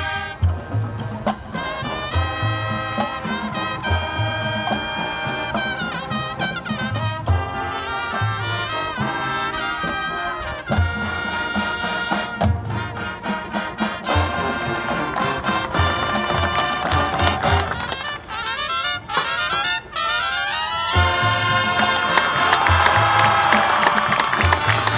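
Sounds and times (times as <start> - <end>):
brass chords: 0.0 - 24.9.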